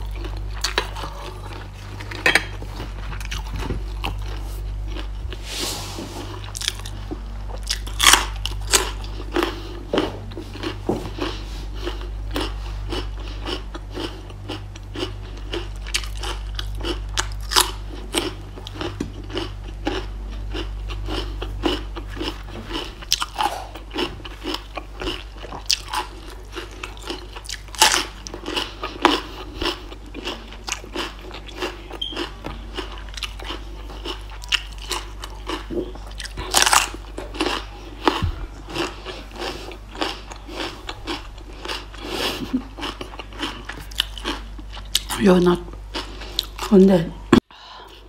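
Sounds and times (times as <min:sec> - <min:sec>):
crunching and chewing cucumber: 0:00.0 - 0:05.5, 0:06.2 - 0:46.9.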